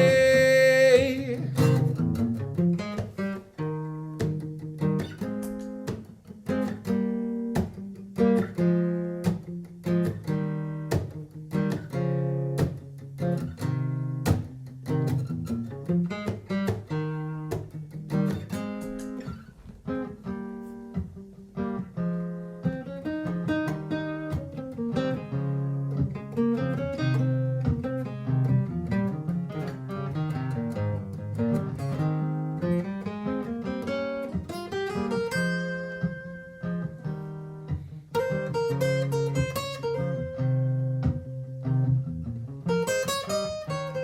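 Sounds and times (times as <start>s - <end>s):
acoustic guitar chords: 0.0s - 44.0s.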